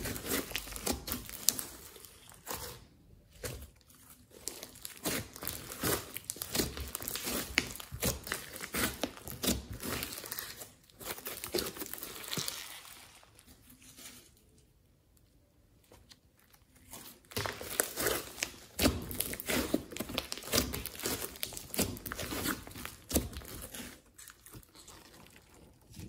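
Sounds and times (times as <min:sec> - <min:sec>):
slime crackling and popping: 0:00.0 - 0:02.8, 0:04.2 - 0:13.5, 0:16.9 - 0:26.0.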